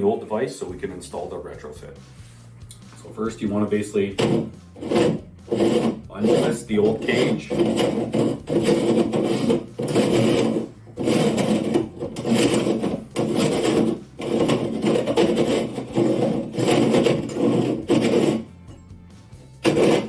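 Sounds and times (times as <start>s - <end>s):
metal threads scraping: 3.7s - 20.0s.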